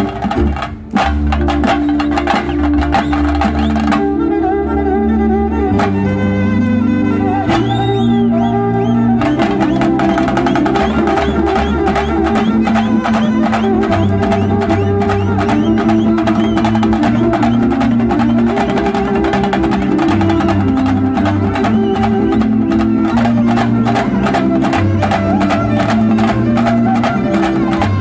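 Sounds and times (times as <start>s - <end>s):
drums beaten in fast strokes: 0.0s - 4.2s, 9.1s - 28.0s
violin melody: 0.0s - 28.0s.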